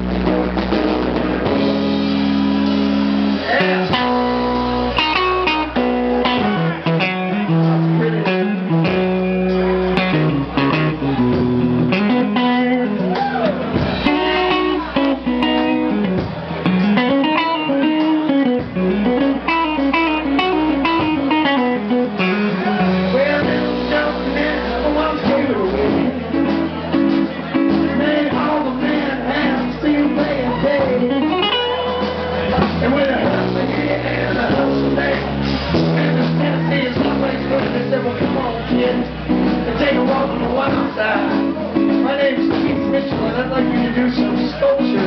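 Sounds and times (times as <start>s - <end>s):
electric guitar: 0.0s - 45.0s
live blues-rock band: 0.0s - 45.0s.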